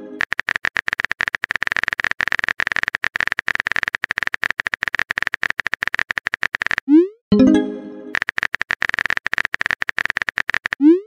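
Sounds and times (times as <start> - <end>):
typing clicks: 0.2 - 6.9, 8.2 - 10.9.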